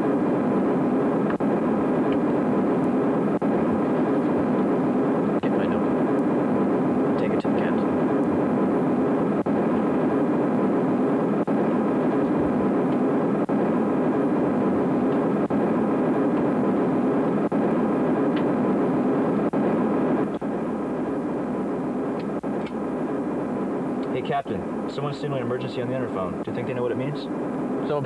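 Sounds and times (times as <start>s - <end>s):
jet airliner cabin noise: 0.0s - 28.0s.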